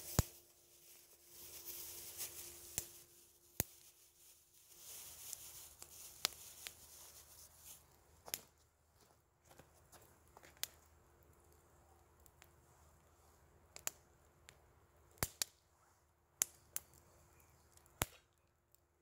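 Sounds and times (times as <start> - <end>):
campfire crackling and popping: 0.0 - 8.6, 10.0 - 12.6, 13.7 - 15.6, 16.4 - 18.8.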